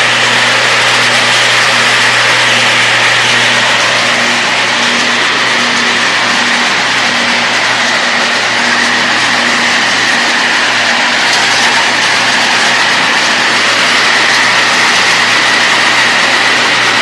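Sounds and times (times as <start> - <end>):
coffee dryer machine whining: 0.0 - 17.0.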